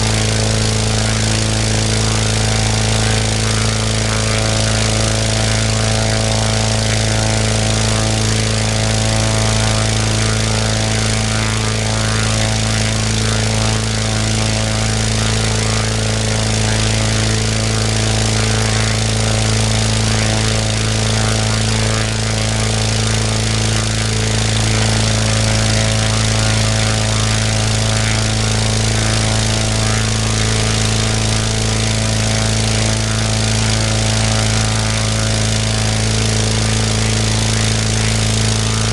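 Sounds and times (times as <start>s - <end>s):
small aircraft engine running: 0.0s - 38.9s.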